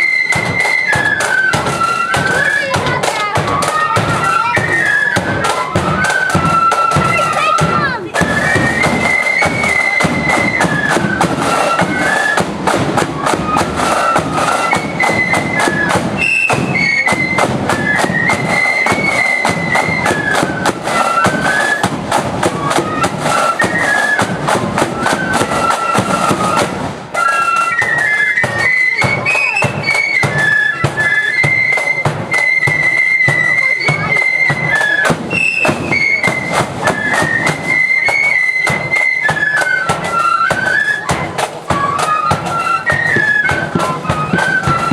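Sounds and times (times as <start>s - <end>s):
flutes playing march melody: 0.0s - 44.9s
steady drum beat: 0.0s - 44.9s.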